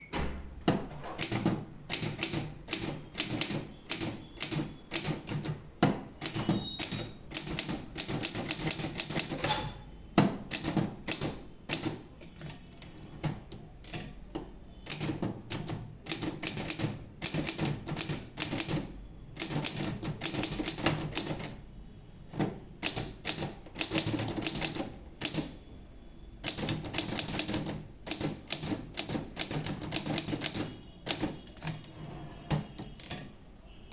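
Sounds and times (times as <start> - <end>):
typewriter key strikes: 0.6 - 21.6, 22.3 - 25.6, 26.4 - 31.8, 32.5 - 33.4.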